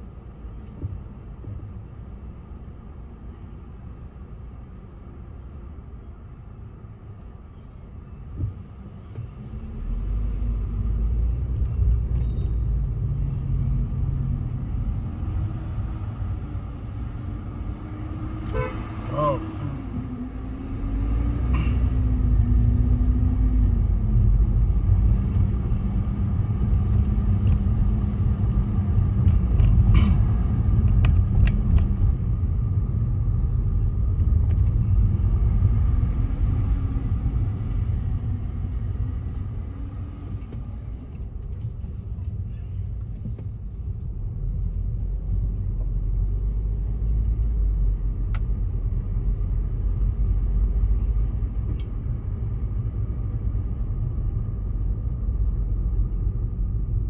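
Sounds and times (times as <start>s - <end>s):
road and engine rumble in car: 0.0s - 57.0s.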